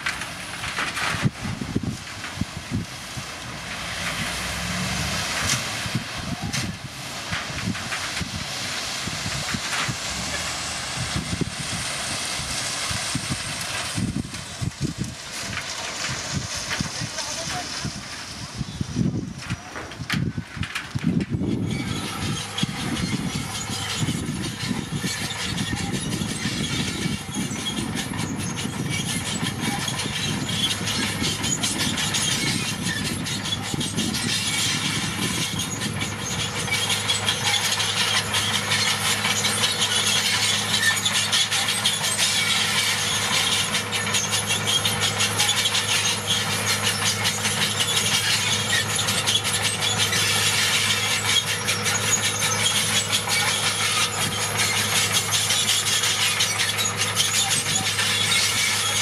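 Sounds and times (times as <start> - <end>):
bulldozer diesel engine under load: 0.0 - 59.0
steel tracks squealing and clattering: 0.0 - 59.0.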